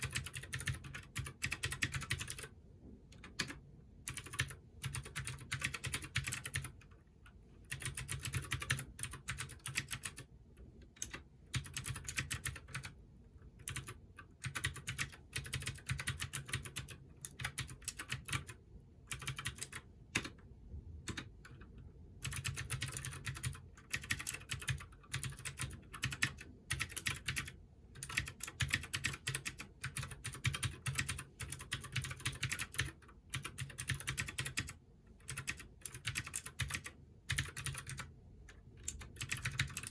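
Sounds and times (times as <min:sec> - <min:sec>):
mechanical keyboard typing: 0:00.0 - 0:07.0, 0:07.7 - 0:13.0, 0:13.6 - 0:20.4, 0:21.1 - 0:39.9.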